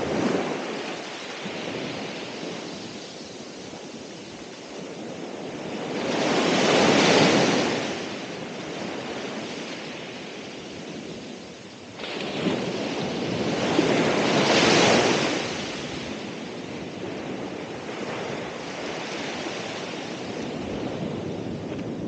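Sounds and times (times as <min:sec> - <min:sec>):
ocean waves breaking: 0:00.0 - 0:22.0
wind on microphone: 0:00.0 - 0:22.0.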